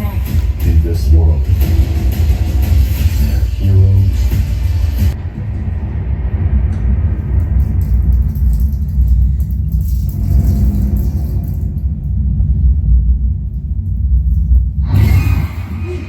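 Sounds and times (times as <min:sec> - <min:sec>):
deep bass rumble from speakers: 0:00.0 - 0:16.0.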